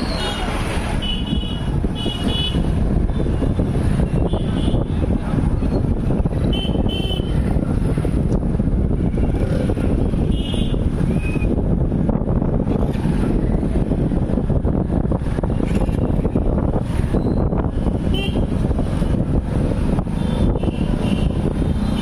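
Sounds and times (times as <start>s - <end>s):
road traffic rumble: 0.0s - 22.0s
wind on microphone: 0.0s - 22.0s.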